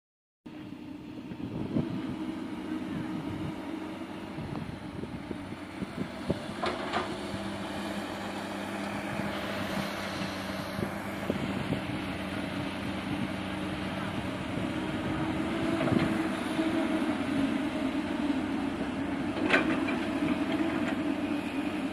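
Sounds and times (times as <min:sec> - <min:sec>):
heavy diesel engine running: 0:00.5 - 0:21.9.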